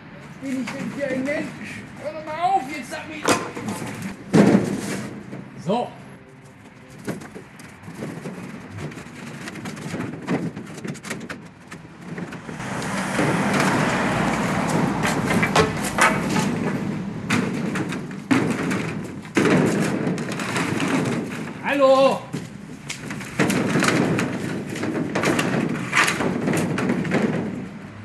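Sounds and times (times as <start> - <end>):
rough scraping: 0.3 - 27.8
knocks and thumps: 3.2 - 5.7, 6.5 - 28.0.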